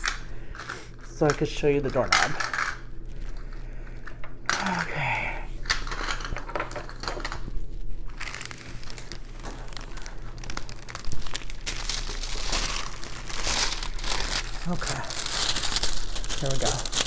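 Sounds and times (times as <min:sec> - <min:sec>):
plastic crinkling and rustling: 0:01.1 - 0:04.9, 0:05.6 - 0:17.0.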